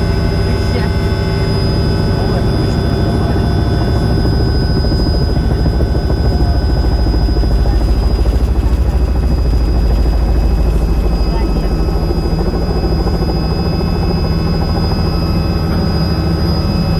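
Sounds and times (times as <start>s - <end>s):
helicopter rotor beat: 0.0s - 16.9s
turbine whine: 0.0s - 16.9s.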